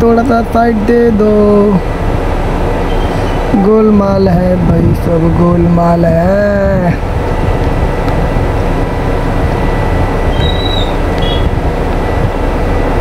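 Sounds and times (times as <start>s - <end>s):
wind and road noise on microphone: 0.0s - 13.0s.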